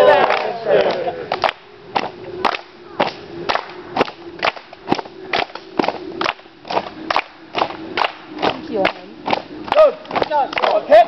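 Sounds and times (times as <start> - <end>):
people clapping a steady rhythm: 0.0 - 11.0.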